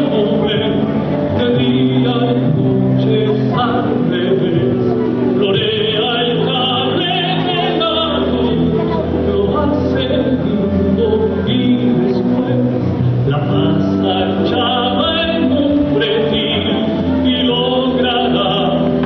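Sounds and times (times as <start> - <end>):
stage musical song with singing: 0.0 - 19.0.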